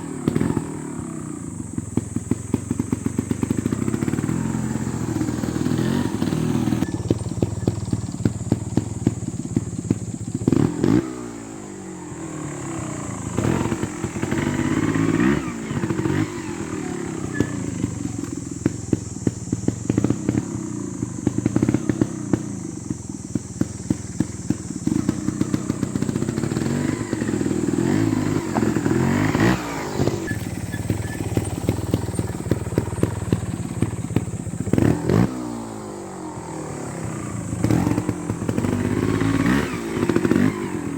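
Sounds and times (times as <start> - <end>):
motorcycle engine blipping: 0.0 - 40.9.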